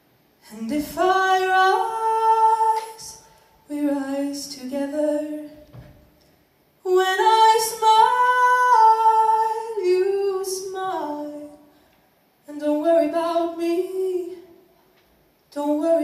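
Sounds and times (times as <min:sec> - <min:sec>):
woman singing: 0:00.4 - 0:06.2, 0:06.8 - 0:11.8, 0:12.4 - 0:14.7, 0:15.5 - 0:16.0.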